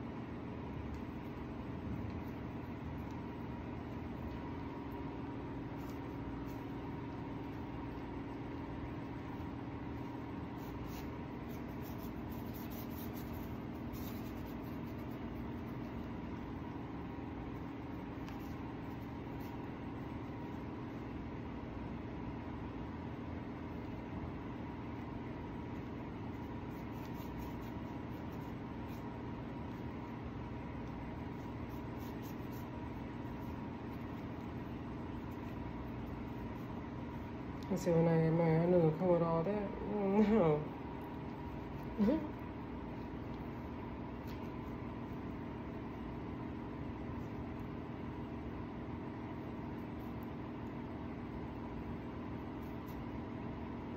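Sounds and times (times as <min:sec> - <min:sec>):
air conditioner humming: 0:00.0 - 0:53.9.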